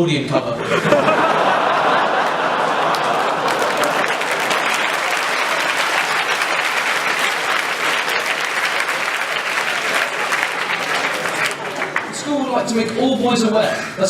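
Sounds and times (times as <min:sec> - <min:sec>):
audience applause: 0:00.8 - 0:12.8.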